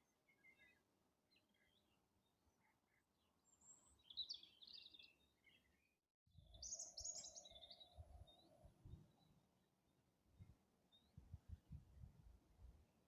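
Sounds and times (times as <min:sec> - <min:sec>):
songbirds chirping: 0:00.0 - 0:12.7.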